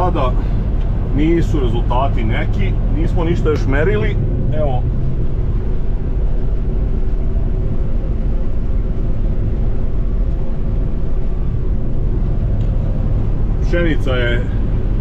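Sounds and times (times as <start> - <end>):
combine harvester drone: 0.0 - 15.0
faint steady hum: 0.0 - 15.0.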